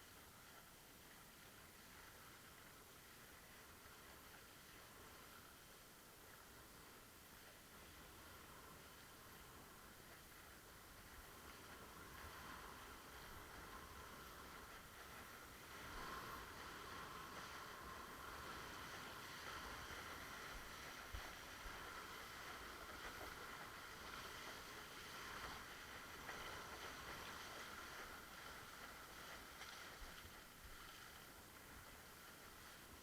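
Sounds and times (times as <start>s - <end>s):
water rushing along a board: 0.0s - 33.0s.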